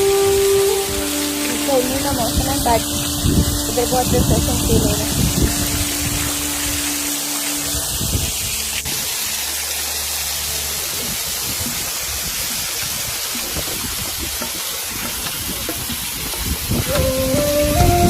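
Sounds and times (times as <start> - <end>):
small waterfall rushing: 0.0 - 18.0.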